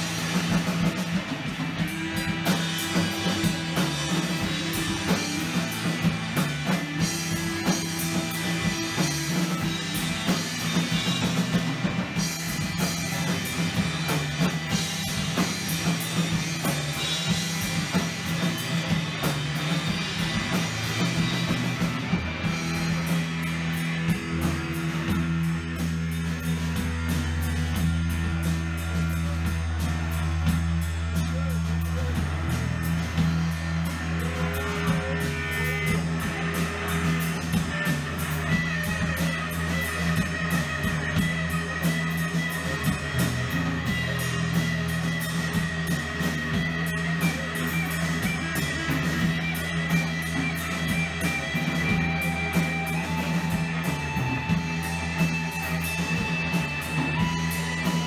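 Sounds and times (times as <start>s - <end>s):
instrumental rock music: 0.0s - 58.0s.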